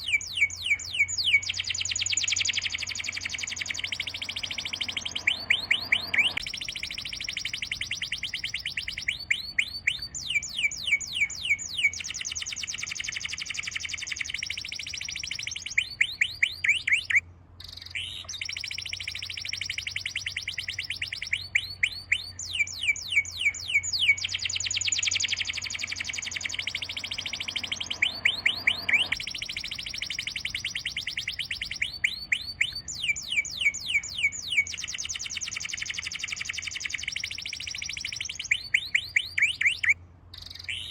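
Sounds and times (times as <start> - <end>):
bird whistling falling notes: 0.0 - 17.2, 17.9 - 40.9
dense bird chirping: 0.0 - 40.9.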